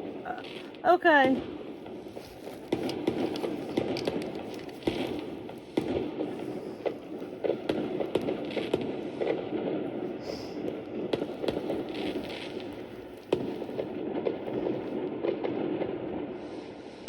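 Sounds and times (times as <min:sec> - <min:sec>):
fireworks popping and crackling: 0:00.0 - 0:17.0
fireworks rumble: 0:00.0 - 0:17.0.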